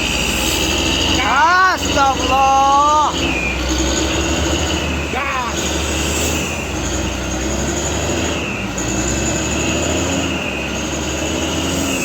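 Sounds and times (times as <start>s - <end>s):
diesel truck engine labouring: 0.0s - 12.0s
high-pitched whine: 0.0s - 12.0s.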